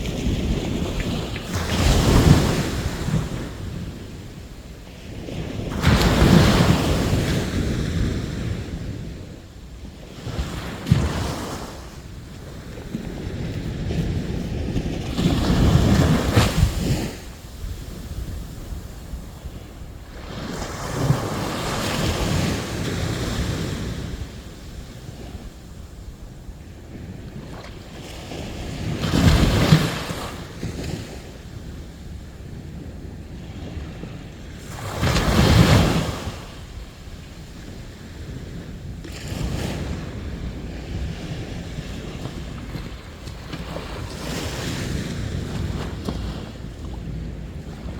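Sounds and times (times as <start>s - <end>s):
low wash of surf: 0.0s - 47.9s
sea waves breaking on beach: 0.0s - 47.9s
wind buffeting microphone: 0.0s - 47.9s.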